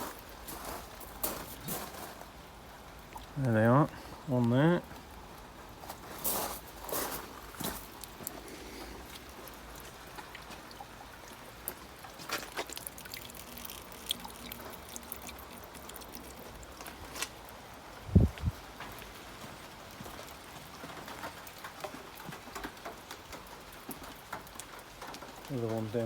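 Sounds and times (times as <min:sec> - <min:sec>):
water dripping: 0:00.0 - 0:26.0
water trickling: 0:00.0 - 0:26.0.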